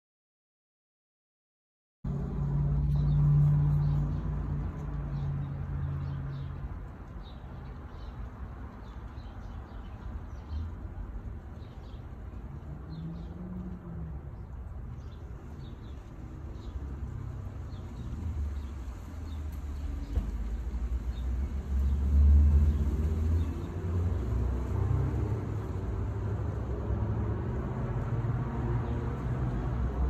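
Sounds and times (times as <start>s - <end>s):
distant traffic rumble: 2.1s - 30.0s
small birds chirping: 2.5s - 26.6s.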